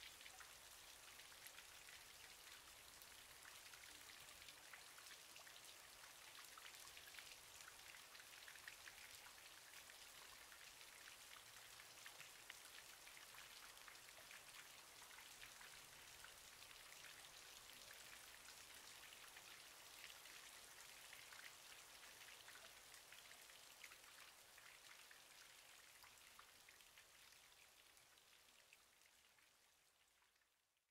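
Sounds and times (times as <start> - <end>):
faint steady rain: 0.0 - 30.9.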